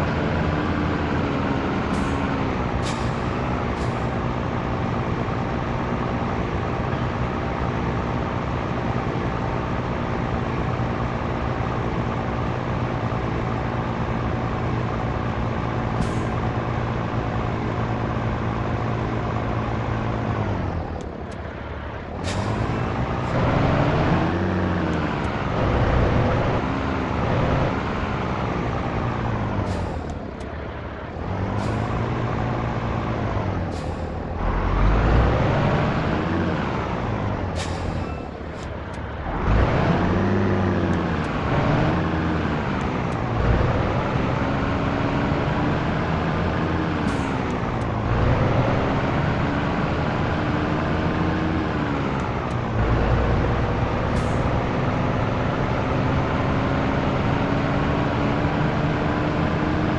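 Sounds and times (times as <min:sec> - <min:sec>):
truck diesel engine revving: 0:00.0 - 0:59.9.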